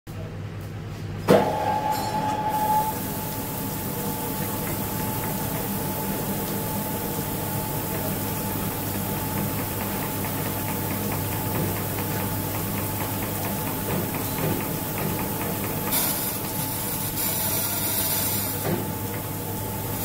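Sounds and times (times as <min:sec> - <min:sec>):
coolant spraying hiss: 0:02.9 - 0:20.0.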